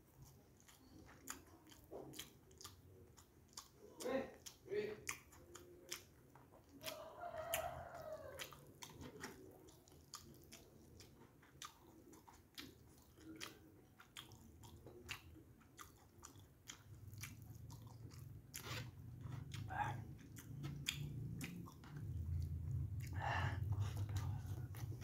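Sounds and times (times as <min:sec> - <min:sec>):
wet chewing mouth clicks: 0:00.0 - 0:25.0.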